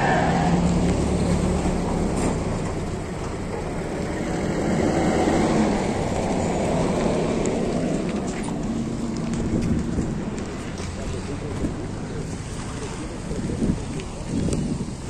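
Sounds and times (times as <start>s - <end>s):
engine hum: 0.0s - 15.0s
vehicles driving past on dirt road: 0.0s - 15.0s.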